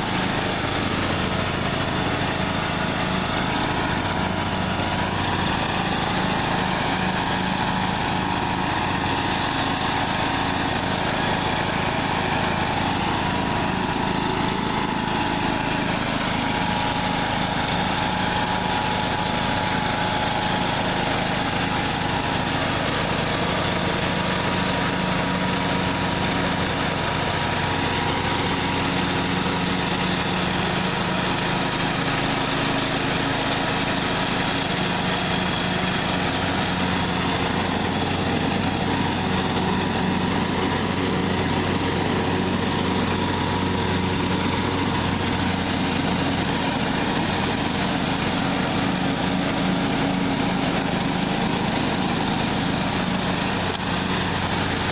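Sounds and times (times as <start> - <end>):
riding lawn mower engine droning: 0.0 - 54.9.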